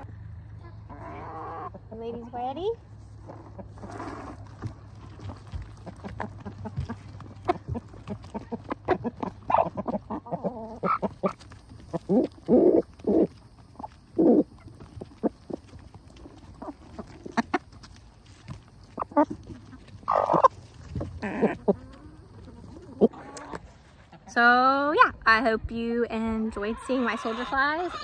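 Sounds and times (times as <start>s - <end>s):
chickens pecking: 0.0s - 24.3s
chickens clucking: 0.0s - 24.4s, 26.1s - 28.0s.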